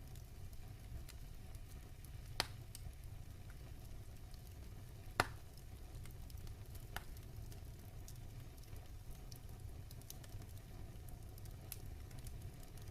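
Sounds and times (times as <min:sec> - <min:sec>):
wood fire crackling: 0:00.0 - 0:12.9.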